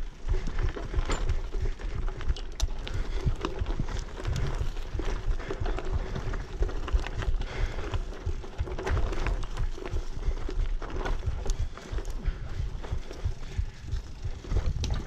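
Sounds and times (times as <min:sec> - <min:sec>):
bicycle tyre rumble on dirt: 0:00.0 - 0:15.0
bike knocks and rattles: 0:00.1 - 0:15.0.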